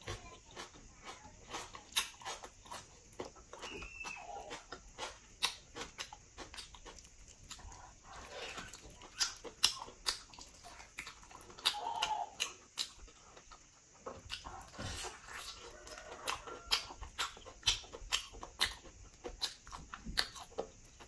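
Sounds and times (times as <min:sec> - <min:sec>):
chewing and mouth smacking: 0:00.0 - 0:21.0.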